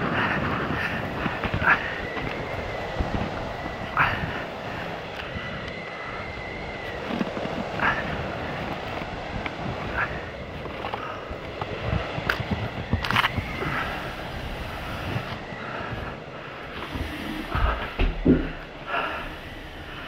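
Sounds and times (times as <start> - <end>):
steady rumbling background noise: 0.0 - 20.0.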